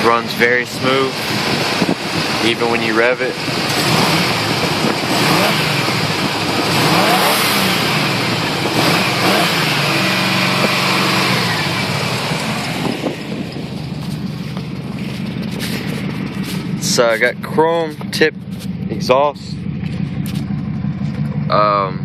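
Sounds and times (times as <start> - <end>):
car engine idling: 0.0 - 22.0
car engine revving: 0.0 - 22.0.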